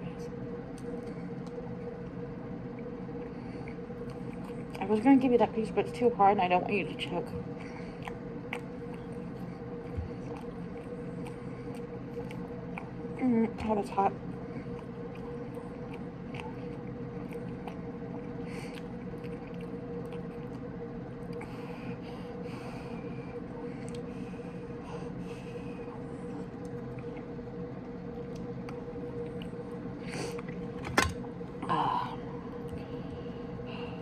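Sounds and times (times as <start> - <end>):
low hum of room tone: 0.0 - 34.0.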